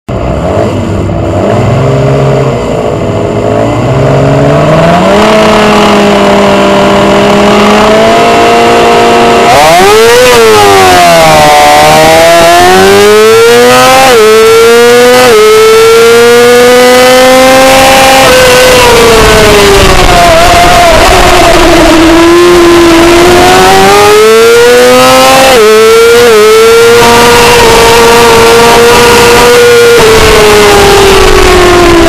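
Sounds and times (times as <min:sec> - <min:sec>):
racing motorcycle engine revving: 0:00.1 - 0:32.0.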